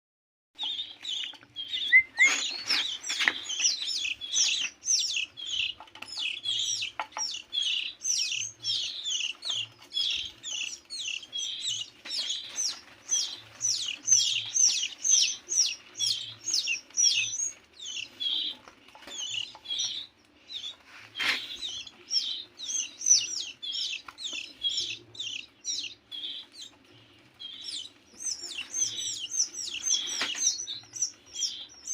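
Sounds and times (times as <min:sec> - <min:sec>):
chicks chirping: 0:00.6 - 0:31.9.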